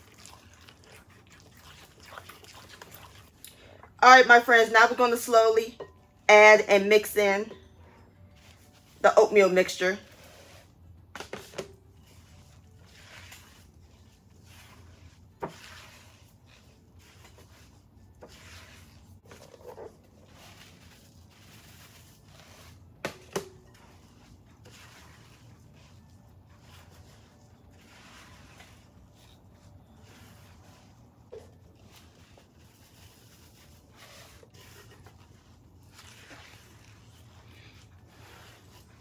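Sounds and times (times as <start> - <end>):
spatula scraping dough: 0.0 - 3.4, 4.1 - 39.0.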